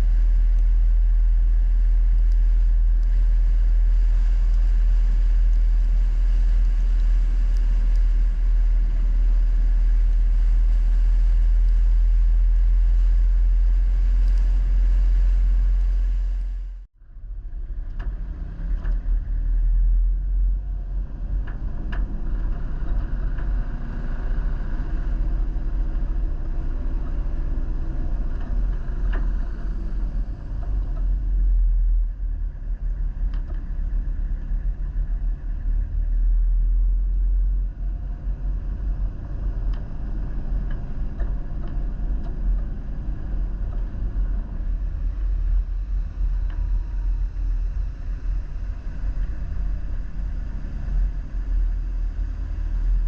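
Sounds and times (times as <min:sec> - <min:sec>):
faint engine tones: 0:00.0 - 0:53.0
vehicle engine and road rumble: 0:00.0 - 0:53.0.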